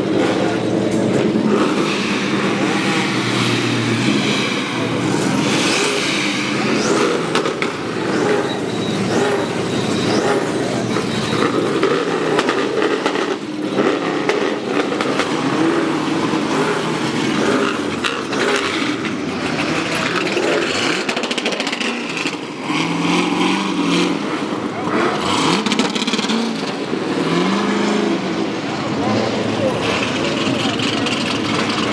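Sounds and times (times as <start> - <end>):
car engines running: 0.0 - 31.9.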